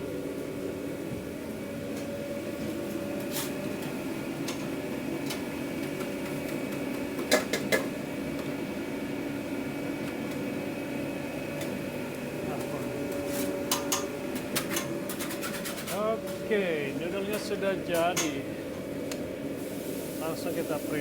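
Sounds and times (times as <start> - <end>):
kitchen equipment humming: 0.0 - 21.0.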